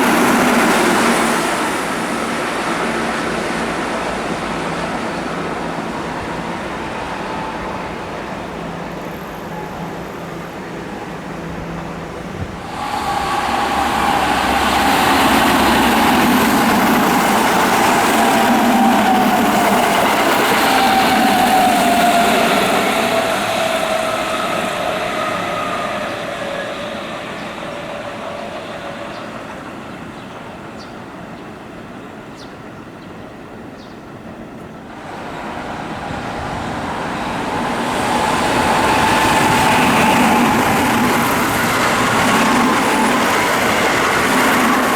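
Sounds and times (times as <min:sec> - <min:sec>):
electric train passing: 0:00.0 - 0:44.9.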